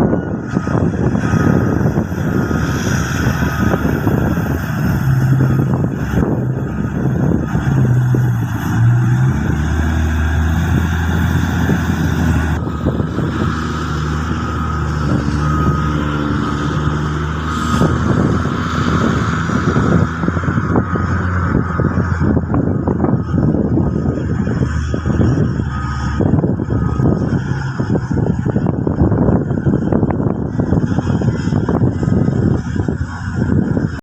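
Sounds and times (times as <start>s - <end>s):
excavator diesel engine droning: 0.0s - 34.0s.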